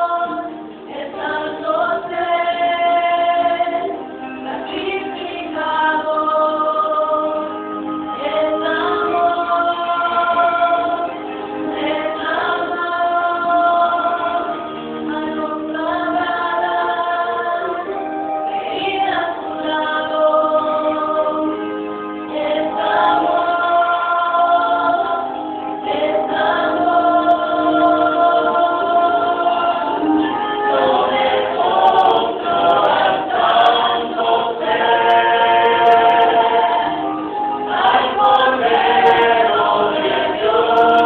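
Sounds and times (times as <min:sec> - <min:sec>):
mixed choir singing: 0:00.0 - 0:41.0.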